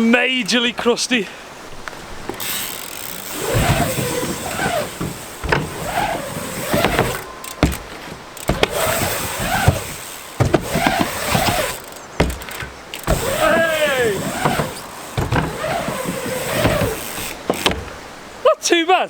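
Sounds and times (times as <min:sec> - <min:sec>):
short pitch-varying squeaks: 0:02.4 - 0:18.1.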